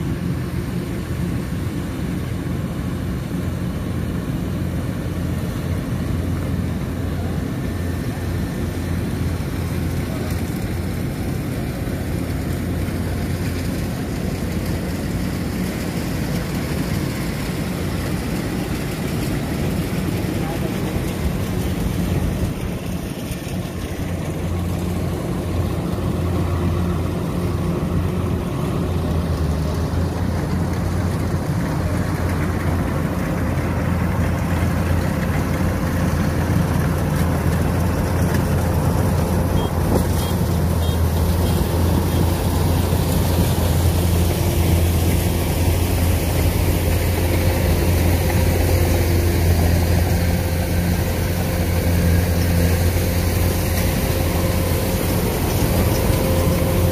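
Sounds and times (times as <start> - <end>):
combine harvester engine running: 0.0 - 56.9.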